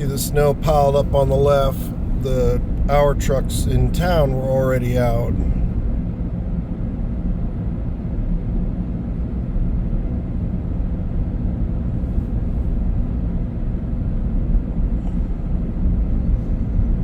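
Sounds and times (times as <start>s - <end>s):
car engine and tyre drone: 0.0s - 17.0s.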